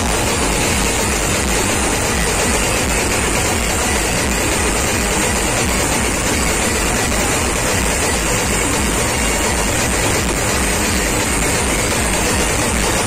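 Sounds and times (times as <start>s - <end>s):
loud distorted band music: 0.0s - 13.0s
throbbing bass beat: 0.0s - 13.0s.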